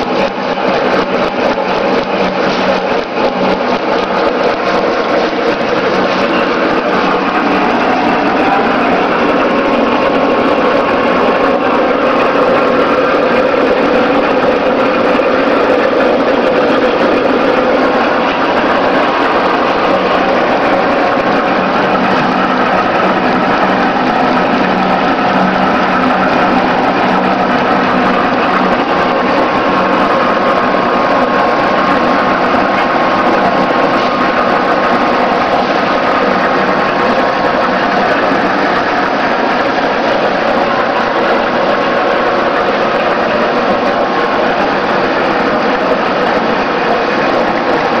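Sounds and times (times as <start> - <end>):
feeder machine running: 0.0 - 48.0.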